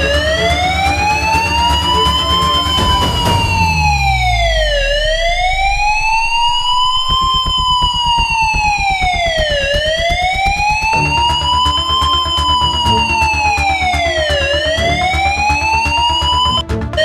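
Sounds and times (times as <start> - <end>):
low regular beat: 0.0 - 17.0
wailing warning siren: 0.0 - 17.0.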